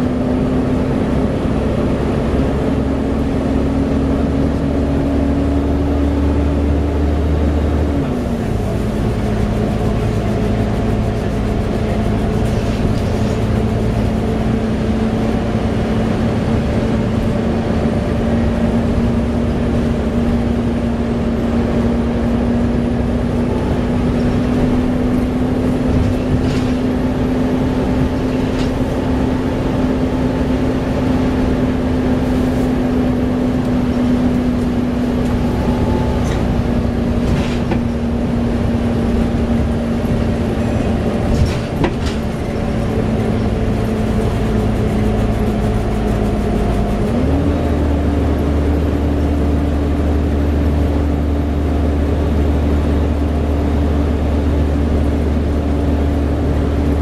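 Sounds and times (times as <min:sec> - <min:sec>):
diesel bus engine drone: 0:00.0 - 0:57.0.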